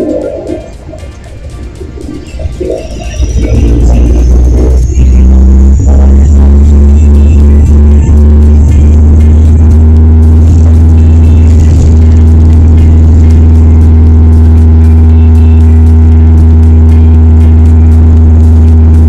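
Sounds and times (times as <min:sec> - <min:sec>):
turboprop engines droning: 0:00.0 - 0:19.0.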